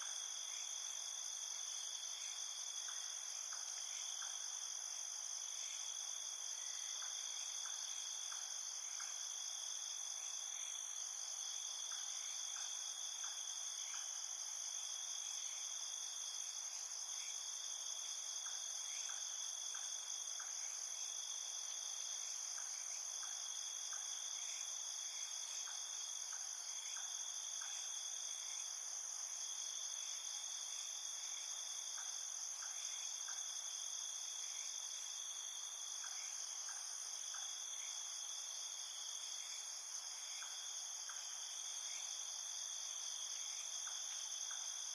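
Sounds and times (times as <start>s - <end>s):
night insects trilling: 0.0s - 44.9s.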